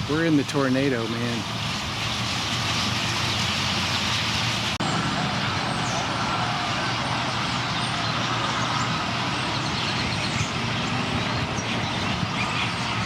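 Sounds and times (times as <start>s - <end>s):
flock of birds chirping: 0.0s - 13.0s.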